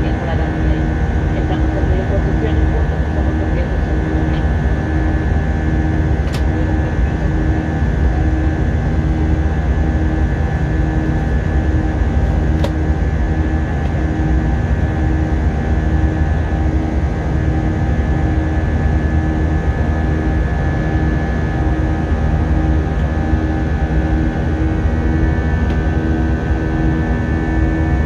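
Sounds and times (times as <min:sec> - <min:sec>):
aircraft cabin engine rumble: 0:00.0 - 0:28.0
high engine whine: 0:00.0 - 0:28.0.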